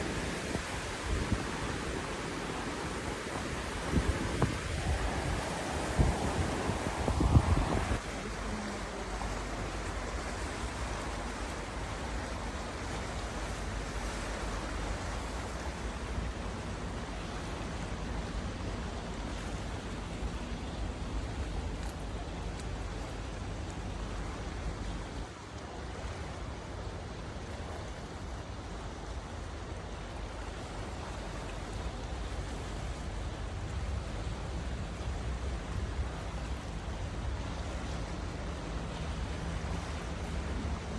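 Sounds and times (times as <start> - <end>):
sea surf: 0.0 - 40.9
wind: 0.0 - 40.9.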